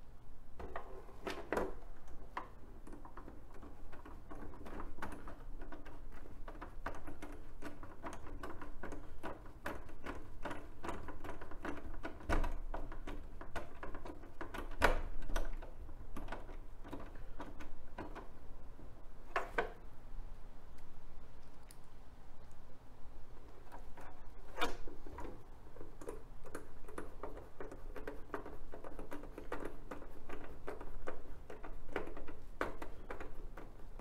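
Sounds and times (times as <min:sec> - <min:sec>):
plastic parts knocking: 0:00.6 - 0:18.4, 0:23.7 - 0:34.0.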